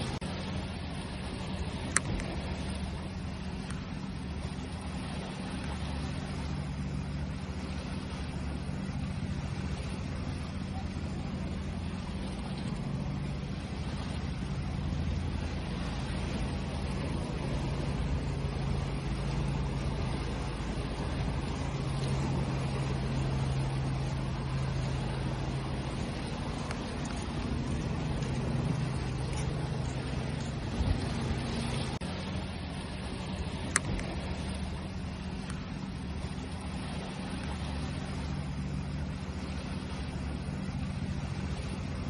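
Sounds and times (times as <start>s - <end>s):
low hum: 0.0s - 42.0s
ocean waves: 0.0s - 42.0s.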